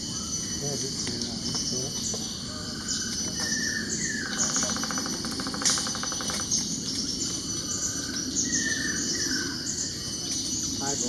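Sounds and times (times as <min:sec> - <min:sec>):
woodpecker trill: 0:01.2 - 0:11.0.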